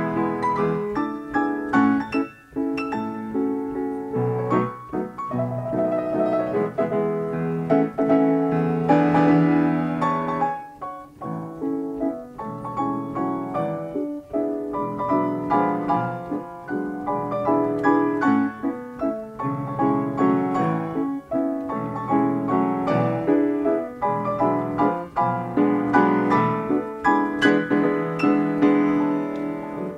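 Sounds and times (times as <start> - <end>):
player piano playing: 0.0 - 29.9.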